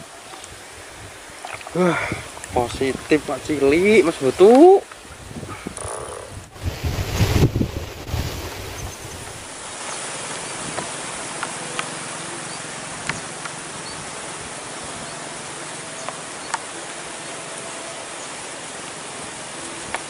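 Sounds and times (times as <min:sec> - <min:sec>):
wind over water: 0:00.0 - 0:20.0.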